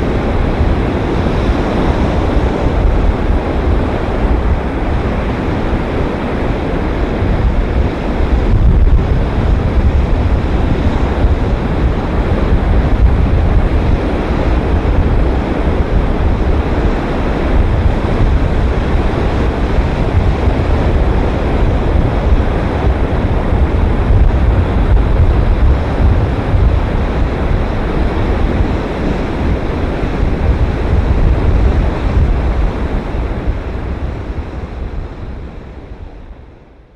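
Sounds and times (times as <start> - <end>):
waves breaking on beach: 0.0 - 36.1.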